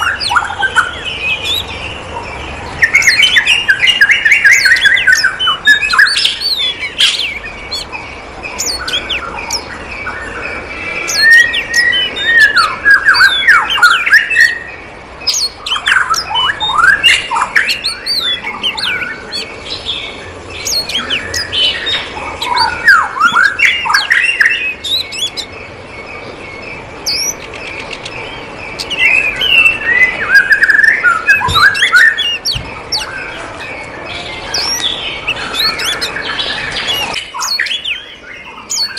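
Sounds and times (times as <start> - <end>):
small birds chirping and squawking: 0.0 - 38.9.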